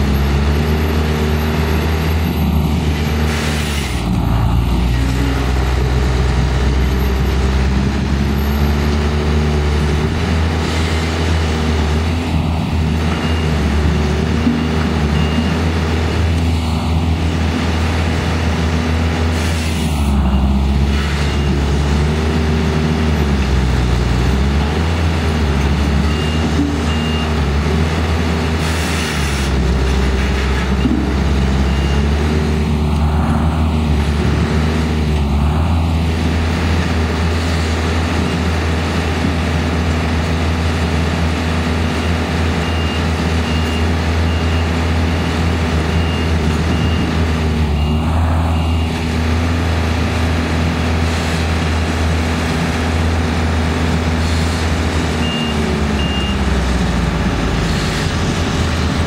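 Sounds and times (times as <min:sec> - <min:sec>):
heavy machine engines revving: 0:00.0 - 0:59.0.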